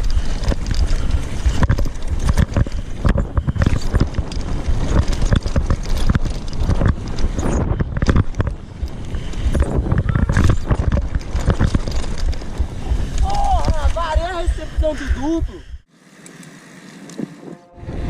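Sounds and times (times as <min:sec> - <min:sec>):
mountain bike rattling and knocking: 0:00.0 - 0:15.4
steady low rumble: 0:00.0 - 0:15.9.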